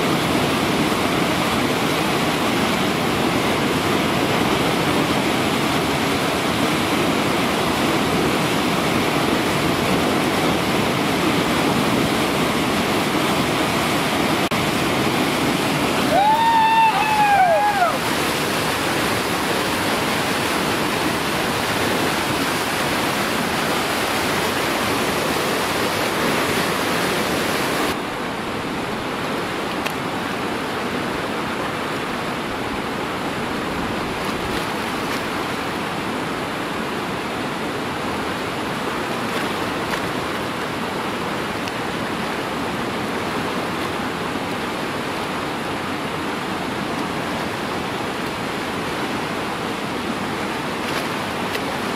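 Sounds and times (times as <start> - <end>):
whitewater rapids rushing: 0.0 - 51.9.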